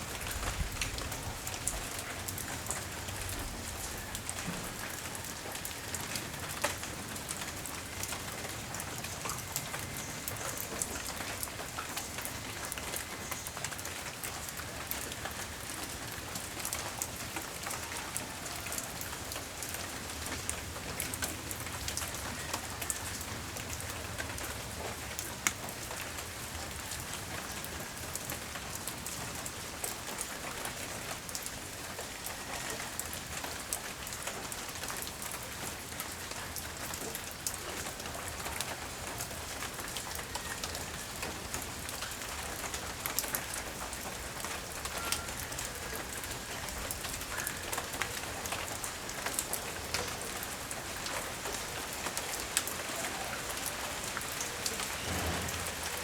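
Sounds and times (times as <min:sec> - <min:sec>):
light rain hiss: 0:00.0 - 0:56.0
raindrops ticking on surfaces: 0:00.0 - 0:56.0.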